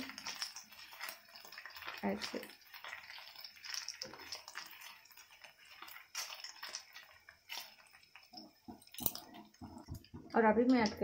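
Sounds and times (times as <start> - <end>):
spatula scraping a pan: 0.0 - 10.1
food sizzling in hot oil: 0.0 - 11.0.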